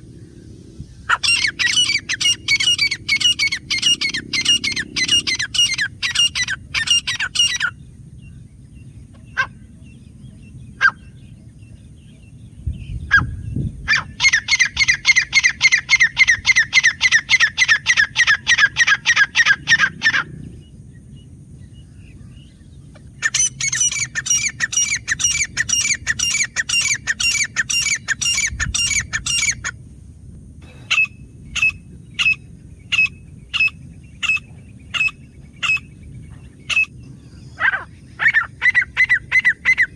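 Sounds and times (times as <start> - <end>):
francolin calling: 1.1 - 8.4, 9.1 - 29.8, 30.6 - 39.9.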